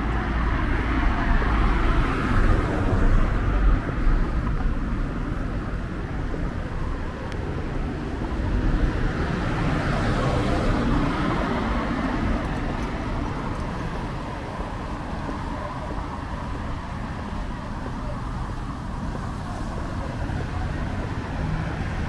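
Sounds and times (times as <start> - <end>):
steady traffic noise: 0.0 - 22.0.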